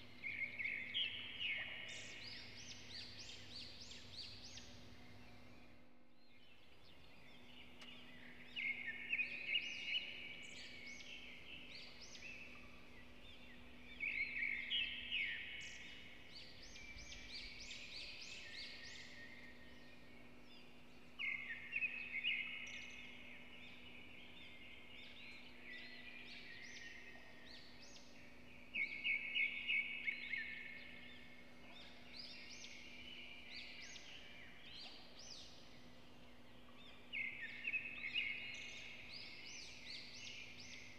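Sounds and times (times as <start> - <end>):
bird singing: 0.0 - 40.9
faint steady hum: 0.0 - 40.9.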